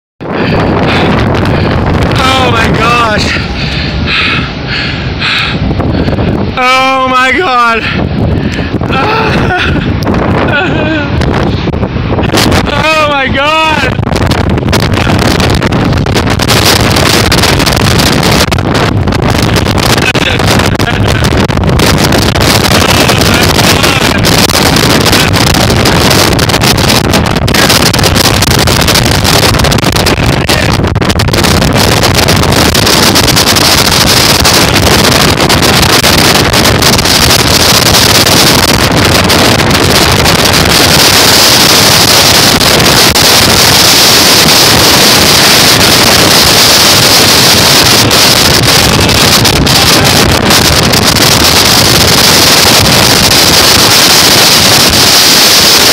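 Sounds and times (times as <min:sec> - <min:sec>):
wind buffeting microphone: 0:00.2 - 0:55.9.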